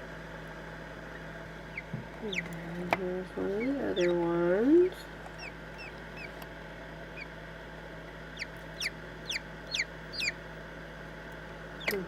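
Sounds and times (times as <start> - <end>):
chicks peeping inside eggs: 1.0 - 12.0.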